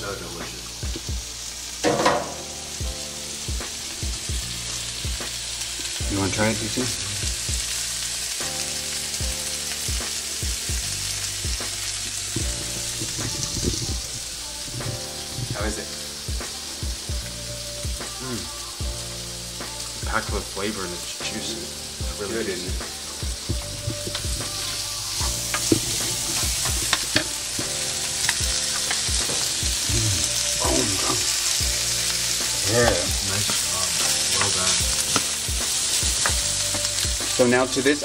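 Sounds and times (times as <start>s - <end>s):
vegetables sizzling in a frying pan: 0.0s - 38.0s.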